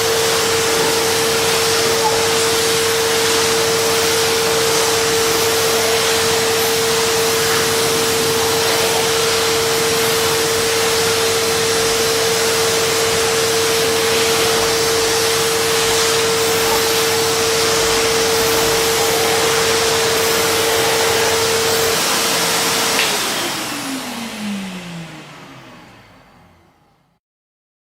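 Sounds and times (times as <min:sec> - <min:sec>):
vacuum cleaner running: 0:00.0 - 0:27.2.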